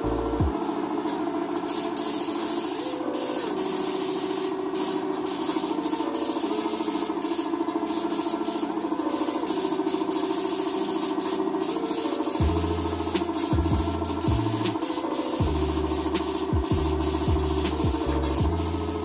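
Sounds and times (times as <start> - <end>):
paint spray gun hissing: 0.0 - 19.0
steady hum: 0.0 - 19.0.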